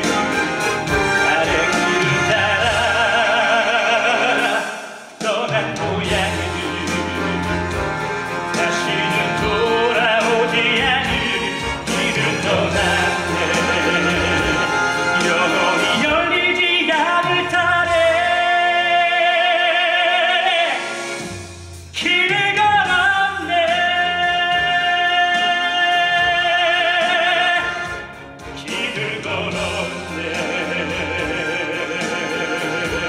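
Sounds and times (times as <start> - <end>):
man singing with vibrato: 0.0 - 21.3, 21.9 - 33.0
backing music: 0.0 - 33.0.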